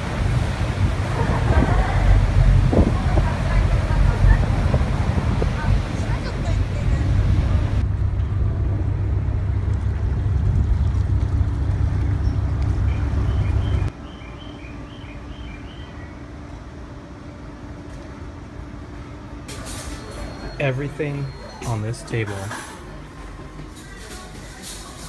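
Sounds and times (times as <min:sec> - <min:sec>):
boat engine rumble: 0:00.0 - 0:25.0.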